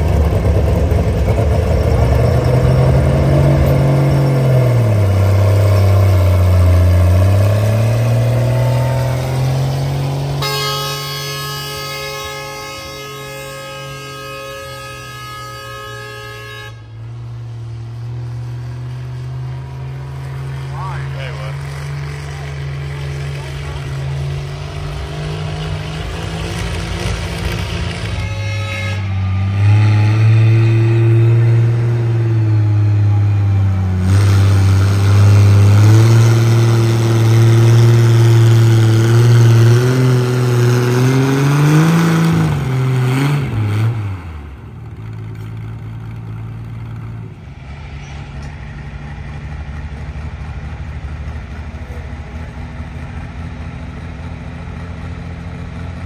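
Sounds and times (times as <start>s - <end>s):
engine under heavy load: 0.0s - 56.0s.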